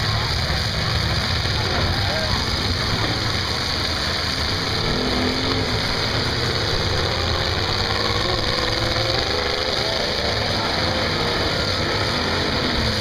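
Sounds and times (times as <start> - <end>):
truck engines running and revving: 0.0 - 13.0.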